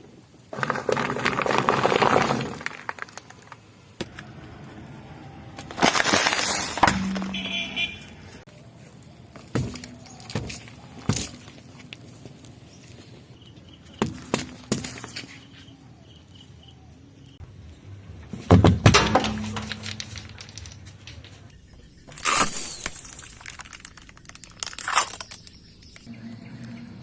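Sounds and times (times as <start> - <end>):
objects crunching under car tyres: 0.0 - 4.1, 5.6 - 16.7, 18.8 - 26.1.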